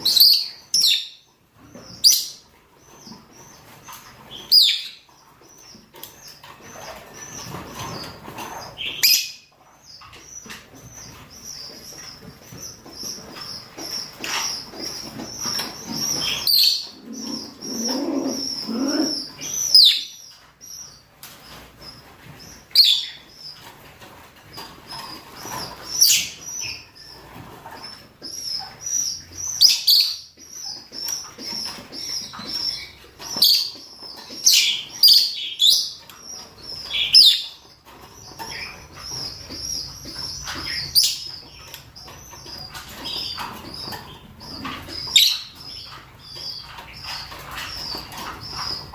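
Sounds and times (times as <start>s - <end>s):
lovebirds chattering and screeching: 0.0s - 48.9s.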